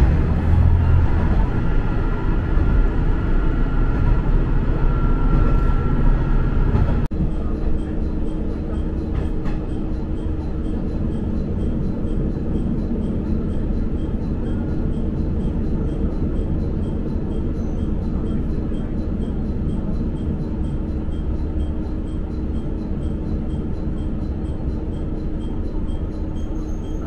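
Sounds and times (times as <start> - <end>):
diesel railcar rumbling: 0.0 - 27.0.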